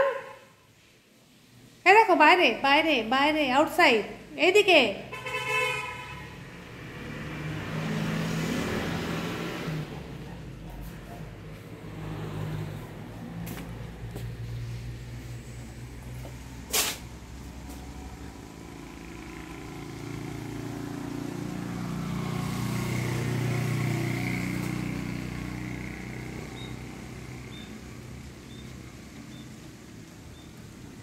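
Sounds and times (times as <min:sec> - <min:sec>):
road vehicle passing by: 0:02.7 - 0:31.0.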